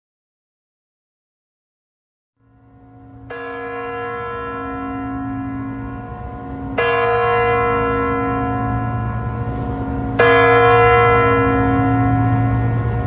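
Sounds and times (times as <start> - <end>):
large bell tolling: 2.4 - 13.0.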